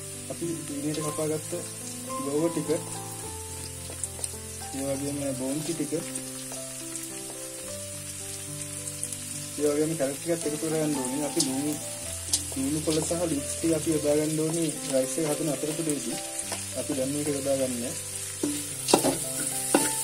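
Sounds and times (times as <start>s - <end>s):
background music of held notes: 0.0s - 20.0s
oil sizzling in a wok: 0.0s - 20.0s.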